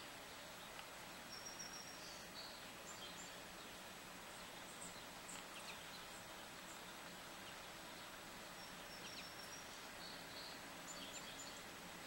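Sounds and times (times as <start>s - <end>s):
songbirds chirping: 0.0s - 12.0s
steady hiss: 0.0s - 12.0s.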